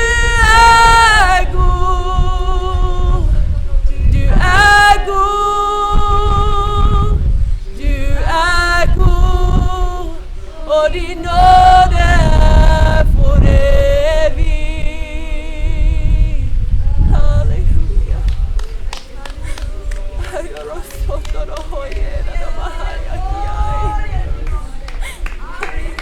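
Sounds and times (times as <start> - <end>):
group singing worship song: 0.0 - 26.0.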